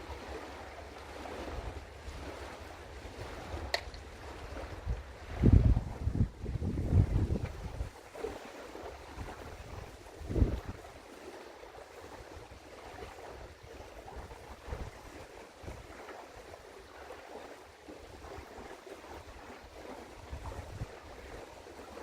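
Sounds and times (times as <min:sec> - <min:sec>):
wind rumbling on microphone: 0:00.0 - 0:17.4, 0:18.0 - 0:22.0.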